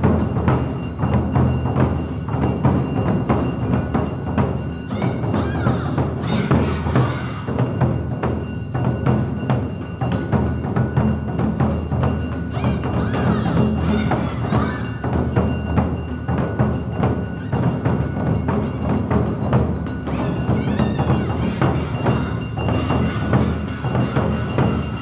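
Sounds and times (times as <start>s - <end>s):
clanging gong: 0.0s - 25.0s
taiko drums: 0.0s - 25.0s.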